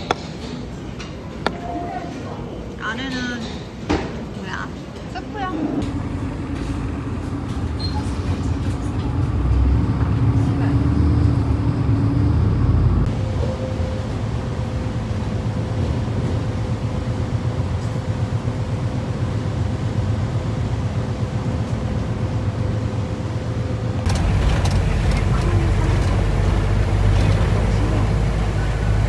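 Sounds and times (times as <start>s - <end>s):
bus engine and road rumble: 5.6s - 29.0s.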